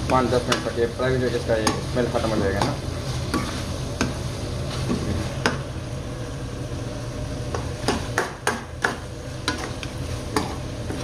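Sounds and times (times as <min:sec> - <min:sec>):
frying sizzle: 0:00.0 - 0:11.0
steady low hum: 0:00.0 - 0:11.0.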